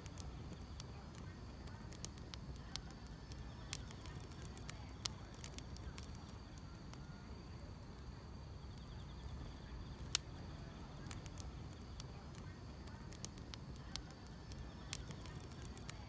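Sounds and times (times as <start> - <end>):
insects trilling: 0.0 - 16.0
wood fire crackling and popping: 0.0 - 16.0.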